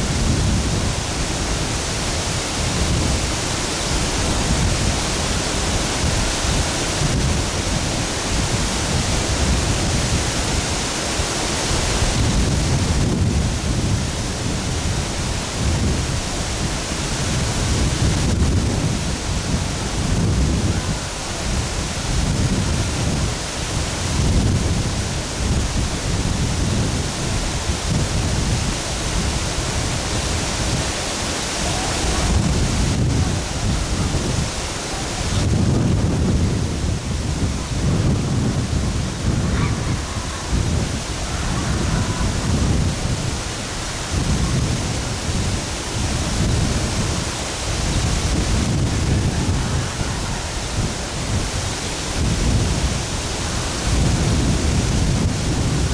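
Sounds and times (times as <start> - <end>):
waterfall rushing: 0.0 - 55.9
wind buffeting microphone: 0.0 - 55.9.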